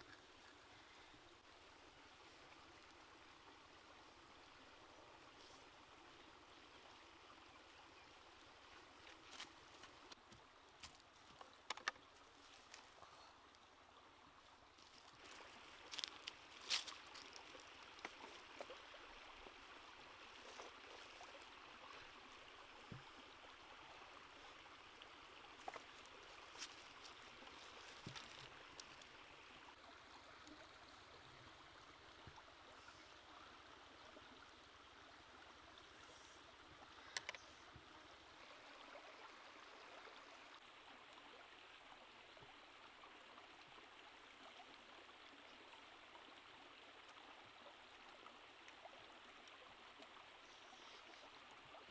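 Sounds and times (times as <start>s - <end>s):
stream running over rocks: 0.0s - 51.9s.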